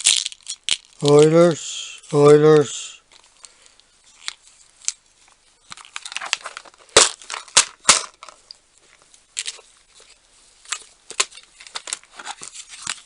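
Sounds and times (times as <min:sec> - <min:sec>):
hardware rustling: 0:00.0 - 0:13.0.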